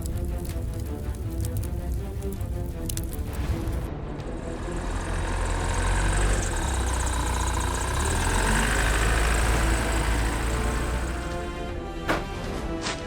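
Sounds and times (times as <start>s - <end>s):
heavy engine rumbling: 0.0s - 11.8s.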